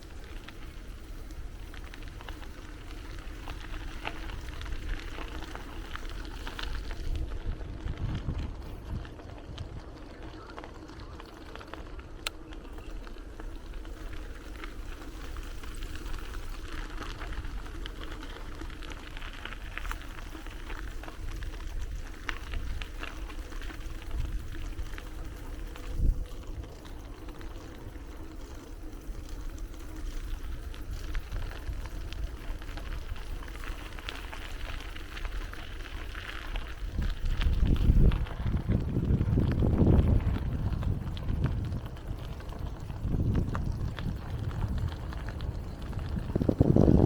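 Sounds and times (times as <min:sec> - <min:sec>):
wind on microphone: 0:00.0 - 0:11.2, 0:19.5 - 0:28.2, 0:29.1 - 0:47.0
bicycle tyres rolling on path: 0:00.0 - 0:47.0.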